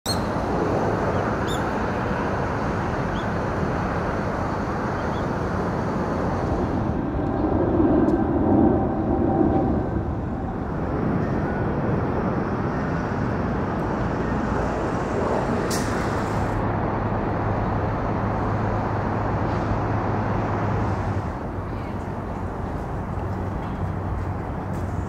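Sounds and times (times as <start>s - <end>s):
road traffic rumble: 0.1s - 25.0s.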